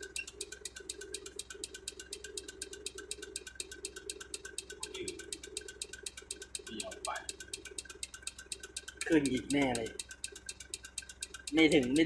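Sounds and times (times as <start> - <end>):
faint rapid ticking: 0.0 - 12.0
low steady hum: 0.0 - 12.0.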